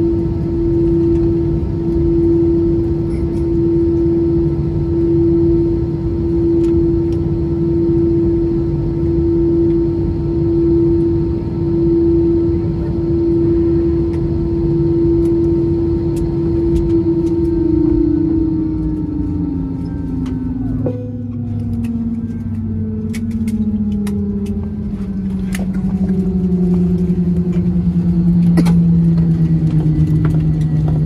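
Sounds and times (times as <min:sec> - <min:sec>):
aircraft cabin hum: 0:00.0 - 0:31.0.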